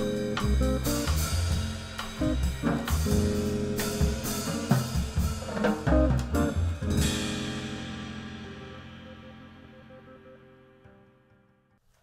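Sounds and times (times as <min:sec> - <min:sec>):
drum hits: 0:00.0 - 0:09.7
jazz quartet playing: 0:00.0 - 0:10.4.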